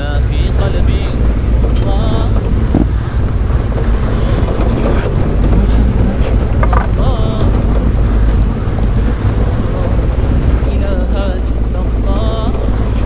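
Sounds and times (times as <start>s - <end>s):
motorcycle engine rumble: 0.0s - 13.0s
road noise: 0.0s - 13.0s
wind buffeting microphone: 0.0s - 13.0s.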